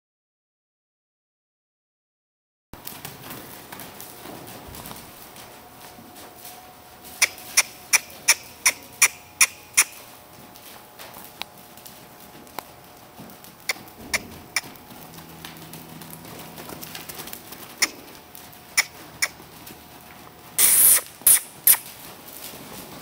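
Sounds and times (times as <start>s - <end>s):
hooves tapping on arena footing: 2.8s - 23.0s.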